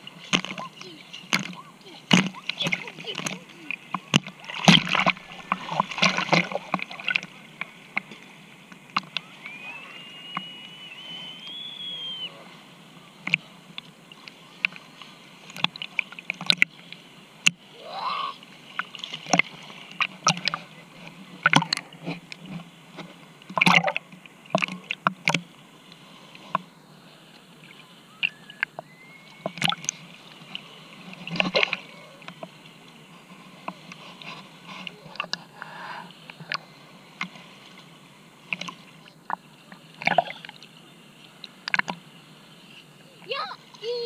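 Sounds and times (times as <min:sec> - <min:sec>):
sea water splashing: 0:00.0 - 0:44.0.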